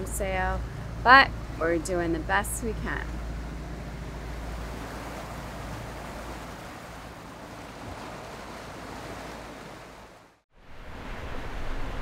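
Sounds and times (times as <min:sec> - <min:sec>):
low steady hum: 0:00.0 - 0:09.8
water splashing past boat hull: 0:00.0 - 0:12.0.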